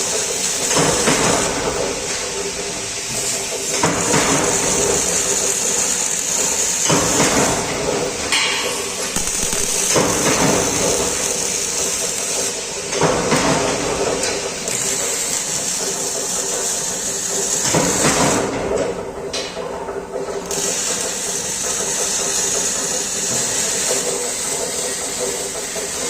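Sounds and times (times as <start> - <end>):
welding arc crackling and hissing: 0.0 - 18.9, 20.2 - 26.0.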